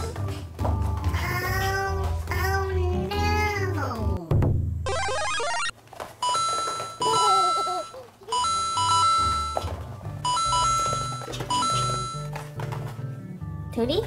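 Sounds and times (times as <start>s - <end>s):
background music: 0.0s - 5.6s, 8.3s - 14.0s.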